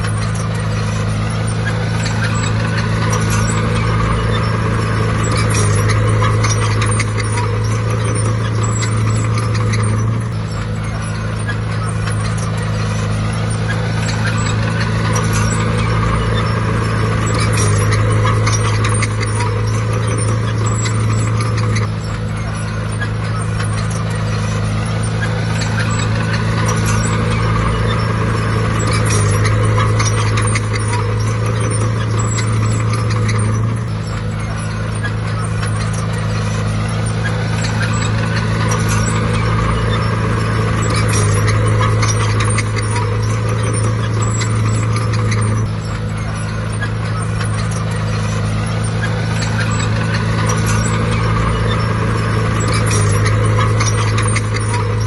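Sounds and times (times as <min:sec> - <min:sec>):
bulldozer diesel engine running: 0:00.0 - 0:55.0
knocks and rattles: 0:00.0 - 0:55.0.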